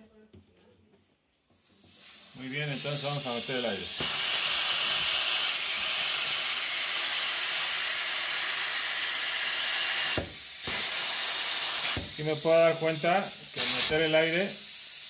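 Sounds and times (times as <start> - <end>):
compressed air hose hissing: 1.5 - 15.0.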